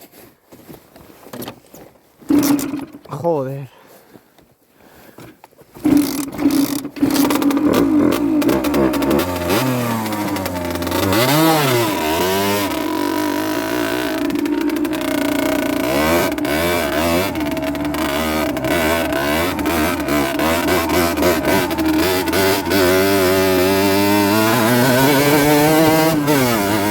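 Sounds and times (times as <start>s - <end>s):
two-stroke motorbike engine: 2.3s - 3.2s, 5.8s - 26.9s.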